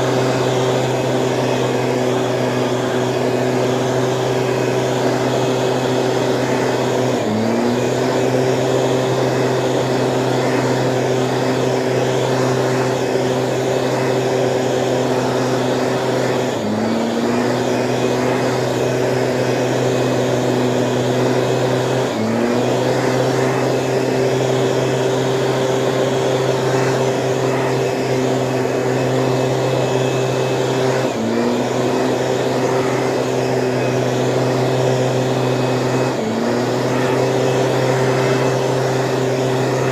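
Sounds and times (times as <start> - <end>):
power sprayer engine running: 0.0 - 39.9.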